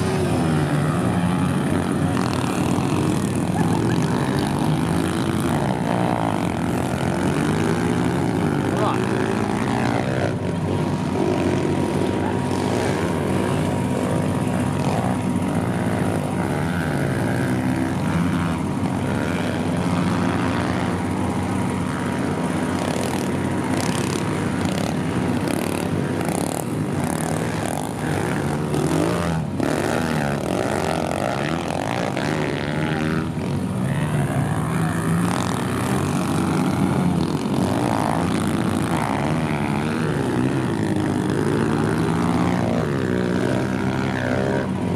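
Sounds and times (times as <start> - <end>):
pit bike engines revving: 0.0 - 44.9.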